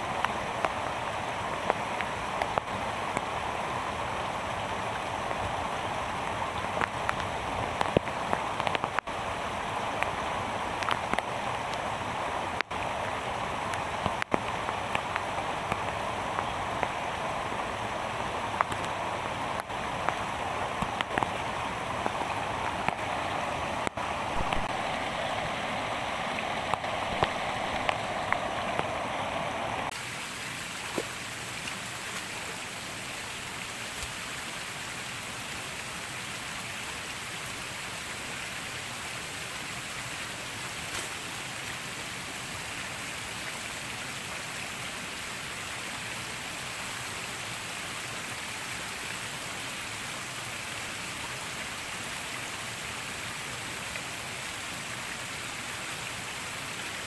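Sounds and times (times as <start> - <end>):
running water: 0.0 - 57.0
steady rain hiss: 0.0 - 57.0.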